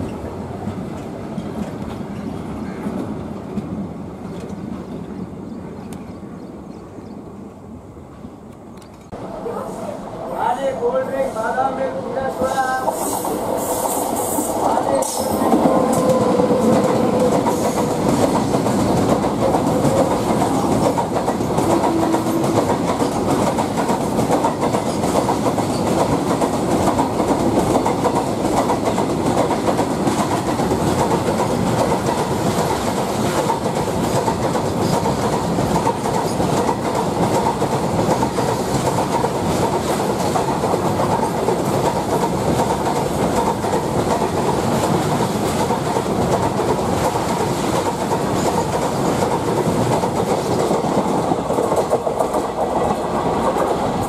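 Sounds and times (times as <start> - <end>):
train wheels clickety-clack: 0.0 - 5.2, 12.6 - 54.0.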